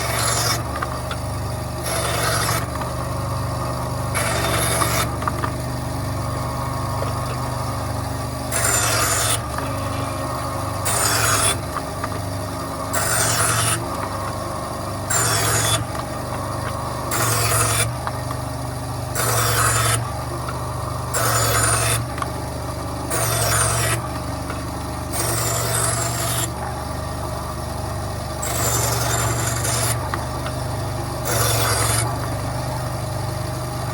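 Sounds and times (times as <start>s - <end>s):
saw blade cutting wood: 0.0s - 6.1s, 6.8s - 18.4s, 19.1s - 22.3s, 23.1s - 26.8s, 28.4s - 32.3s
bandsaw motor hum: 0.0s - 33.9s.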